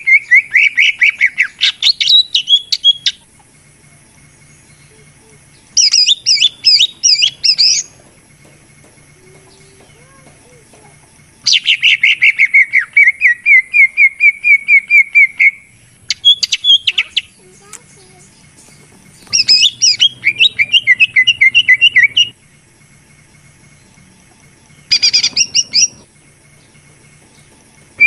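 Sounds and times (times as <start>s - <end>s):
bird chirping song: 0.0s - 28.0s.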